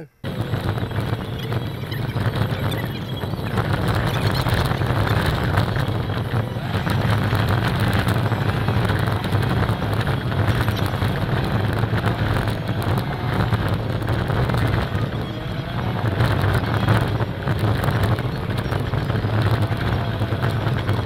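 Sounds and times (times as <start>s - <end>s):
vehicle engine droning: 0.0s - 21.0s
wind noise on microphone: 0.2s - 21.0s.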